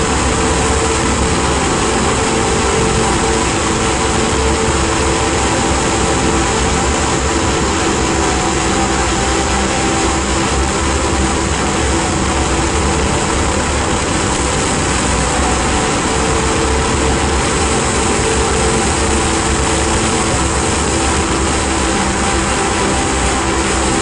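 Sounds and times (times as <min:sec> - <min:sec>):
ambient drone noise music: 0:00.0 - 0:24.0.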